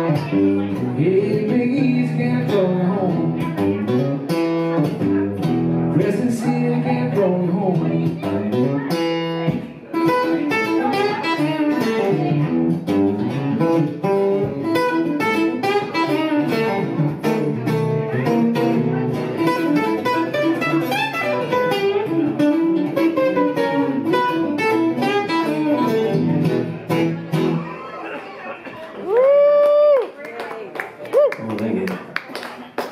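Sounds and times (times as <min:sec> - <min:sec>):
electric guitar through amplifier: 0:00.0 - 0:28.8.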